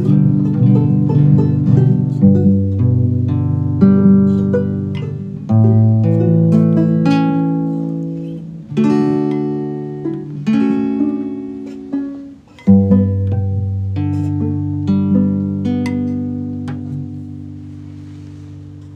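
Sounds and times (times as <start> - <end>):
acoustic guitar strummed chords: 0.0 - 18.9.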